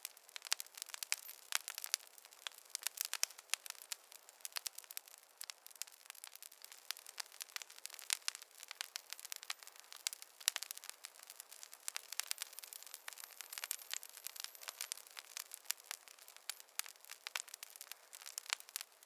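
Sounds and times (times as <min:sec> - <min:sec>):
campfire crackling: 0:00.0 - 0:19.0
faint hiss: 0:00.0 - 0:19.0.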